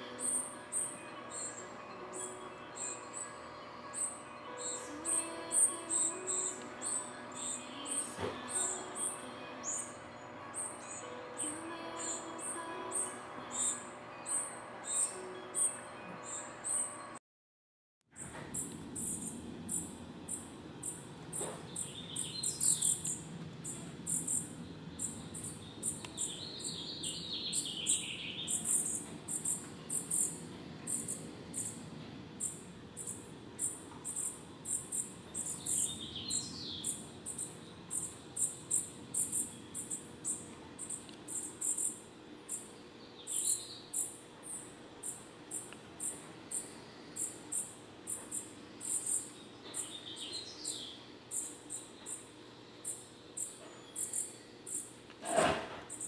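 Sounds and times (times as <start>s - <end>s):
songbirds chirping: 0.0s - 17.2s, 18.2s - 56.0s.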